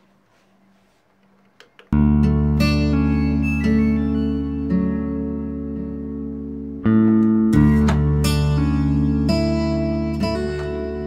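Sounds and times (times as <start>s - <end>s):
plucked guitar music: 1.8s - 11.0s.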